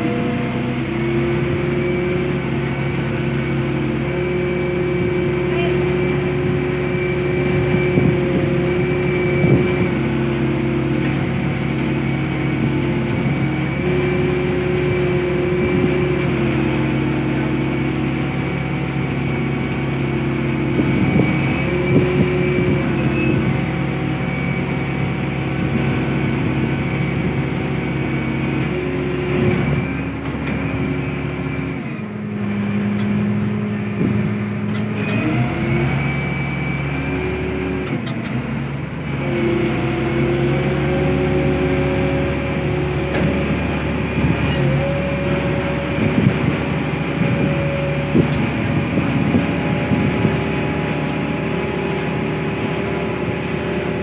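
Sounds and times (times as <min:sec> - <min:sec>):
crane machinery humming and whining: 0:00.0 - 0:54.0.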